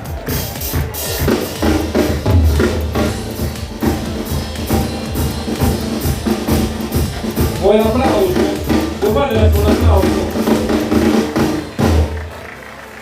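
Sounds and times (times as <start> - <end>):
dance music: 0.0 - 12.4
drum kit beat: 0.0 - 12.4
heavy bass: 0.0 - 13.0.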